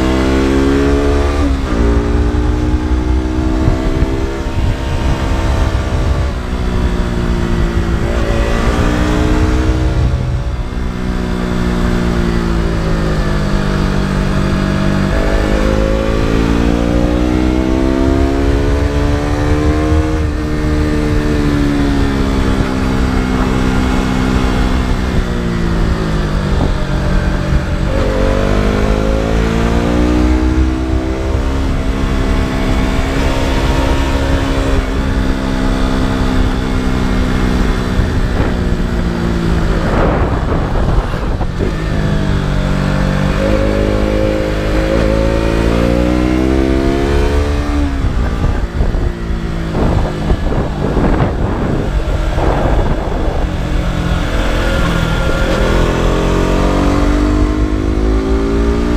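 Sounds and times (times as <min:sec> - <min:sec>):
motorcycle engine under load: 0:00.0 - 0:58.9.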